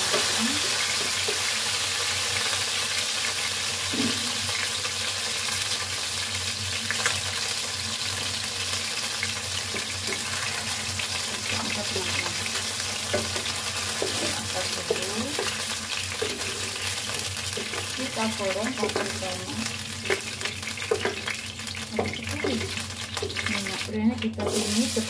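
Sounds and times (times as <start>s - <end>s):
chicken sizzling in oil: 0.0s - 25.0s.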